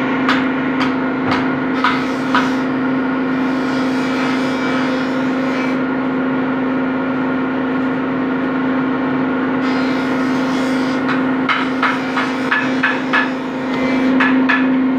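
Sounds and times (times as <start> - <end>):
steady machine hum: 0.0 - 14.9.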